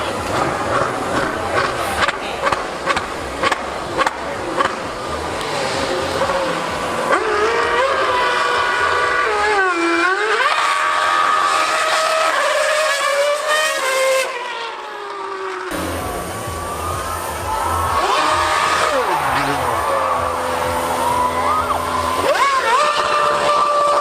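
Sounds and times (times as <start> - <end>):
racing car engine screaming: 0.0 - 24.0.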